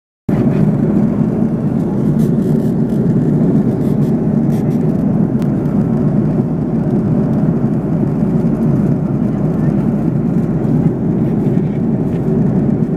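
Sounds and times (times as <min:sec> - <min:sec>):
airliner cabin noise: 0:00.3 - 0:12.9.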